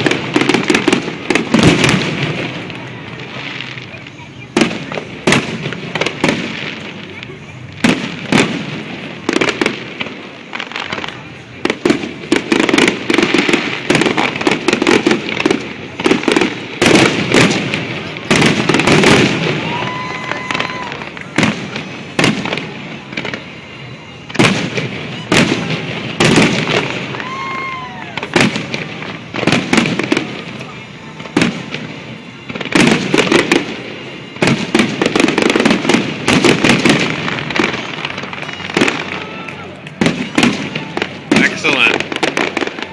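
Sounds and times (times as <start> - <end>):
fireworks crackling: 0.0 - 42.9
fireworks exploding: 0.0 - 42.9.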